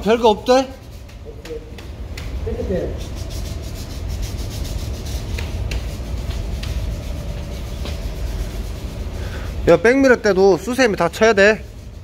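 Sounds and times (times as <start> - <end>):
hand sanding metal: 0.0 - 12.0
low steady rumble: 0.0 - 12.0.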